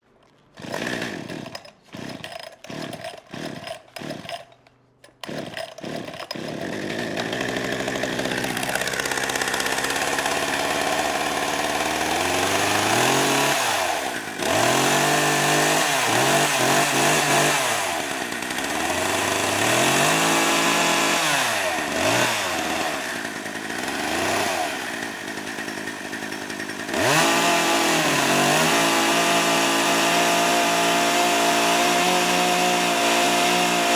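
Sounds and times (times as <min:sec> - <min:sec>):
chainsaw starting and revving: 0:00.4 - 0:33.9.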